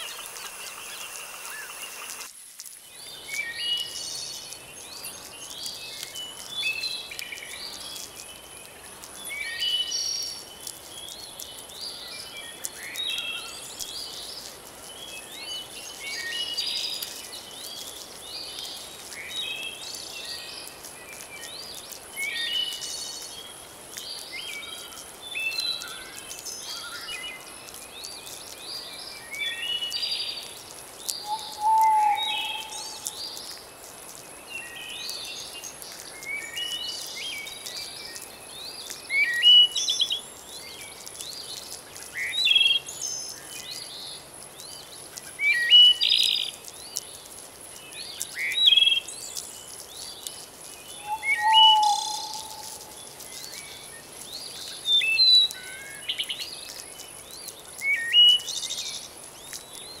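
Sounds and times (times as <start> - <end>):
songbirds chirping and trilling: 0.0 - 2.2, 2.8 - 60.0
soft hiss: 0.0 - 60.0.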